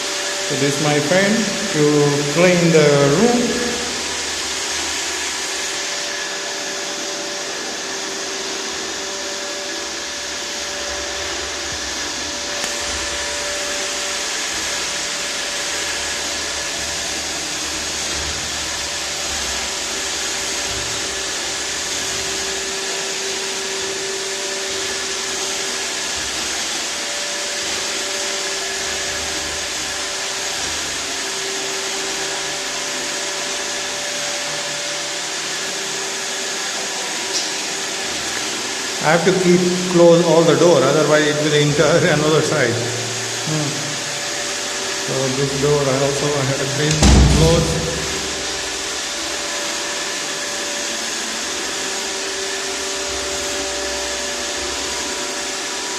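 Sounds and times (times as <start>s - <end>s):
robot vacuum cleaner whirring: 0.0s - 55.9s.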